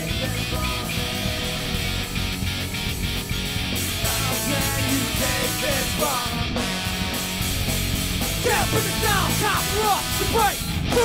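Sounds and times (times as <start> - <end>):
live ska-punk band playing: 0.0 - 11.0.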